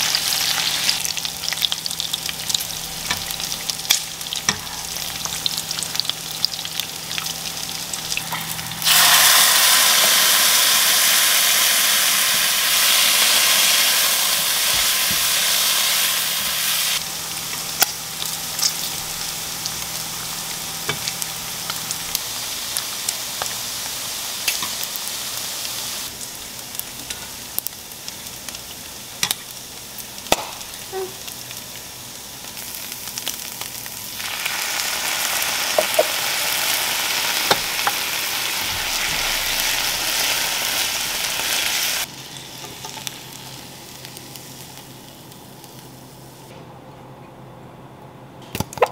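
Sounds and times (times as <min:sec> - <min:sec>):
bacon sizzling in a pan: 0:00.0 - 0:46.5.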